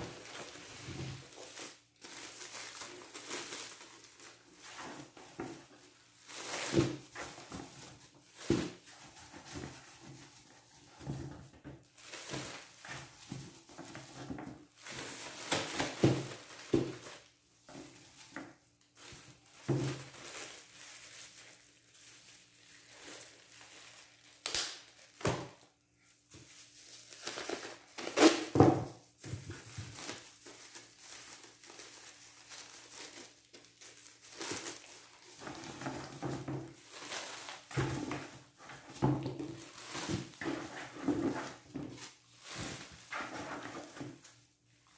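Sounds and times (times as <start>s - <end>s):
plastic bags crinkling: 0.0s - 44.9s.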